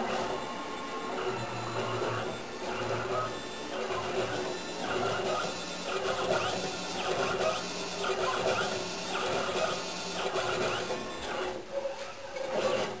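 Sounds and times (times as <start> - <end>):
stepper motor whine: 0.0 - 11.6
steady machine hum: 0.0 - 11.8.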